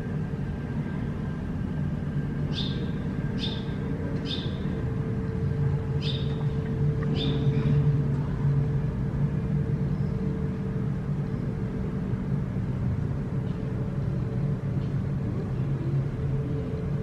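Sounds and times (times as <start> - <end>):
low vehicle drone: 0.0 - 17.0.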